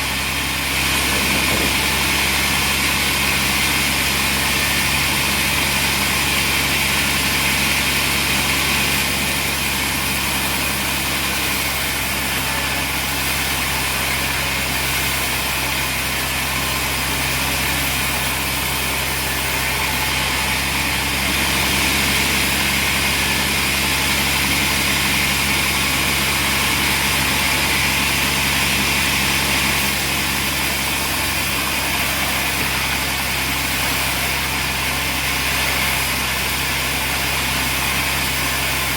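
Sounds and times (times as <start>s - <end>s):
machinery humming and hissing: 0.0s - 38.9s.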